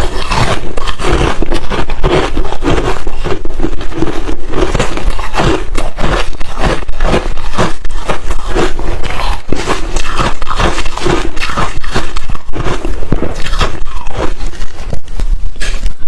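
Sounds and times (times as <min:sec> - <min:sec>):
chewing crunchy ice: 0:00.0 - 0:16.0.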